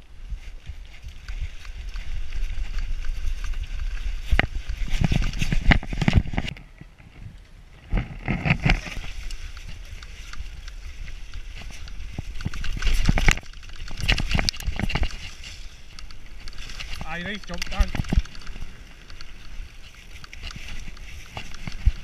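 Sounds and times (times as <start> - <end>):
mountain bike tyres over dirt: 0.0 - 22.0
wind rumble on microphone: 0.0 - 22.0
bike frame and chain rattling: 0.3 - 6.5, 8.0 - 22.0.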